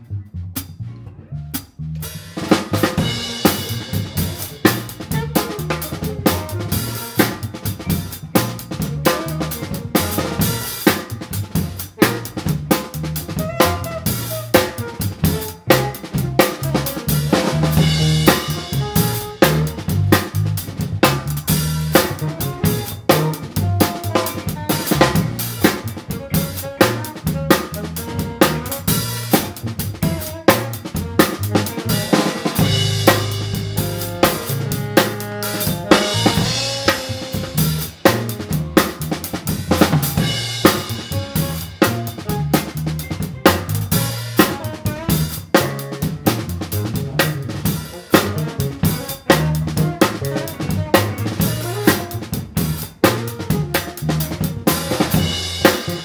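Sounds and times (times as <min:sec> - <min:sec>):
bass notes: 0:00.0 - 0:56.0
funk drum kit: 0:00.0 - 0:56.0.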